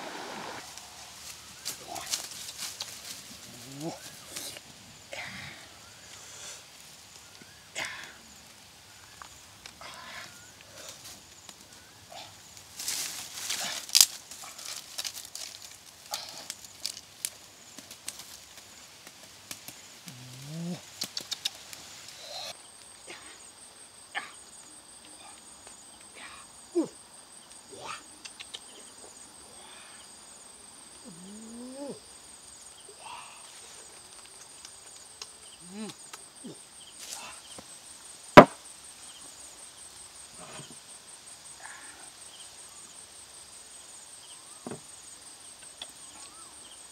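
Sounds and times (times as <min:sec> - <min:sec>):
insect chirring: 0:00.0 - 0:46.9.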